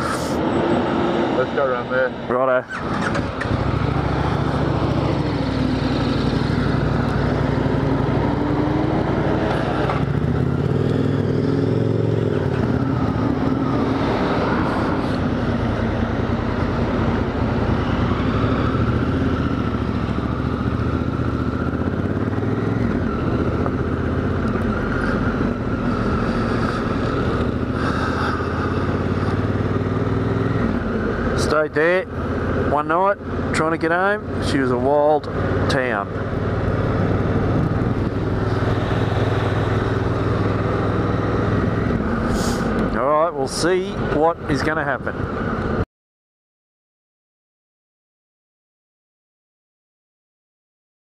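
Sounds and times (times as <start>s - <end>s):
motorcycle engine running: 2.6s - 44.5s.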